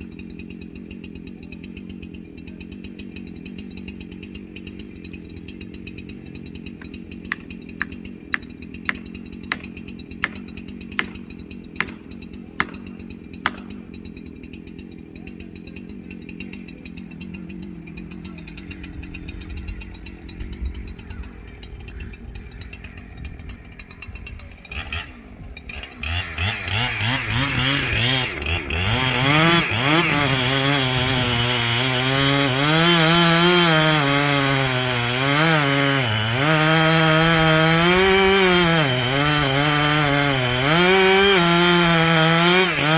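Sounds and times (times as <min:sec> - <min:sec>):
chainsaw running: 0:00.0 - 0:42.9.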